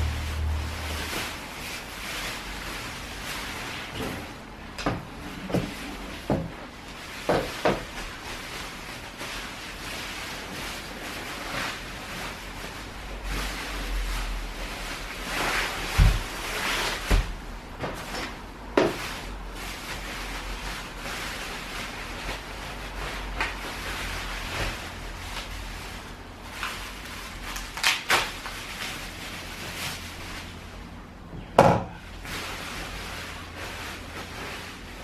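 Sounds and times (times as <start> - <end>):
bubble wrap rustling and crinkling: 0.0 - 31.2, 31.9 - 35.0.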